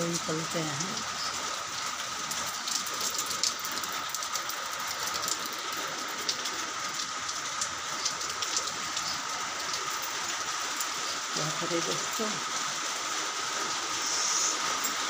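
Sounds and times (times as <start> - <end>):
rain on a sheet roof: 0.0 - 15.0.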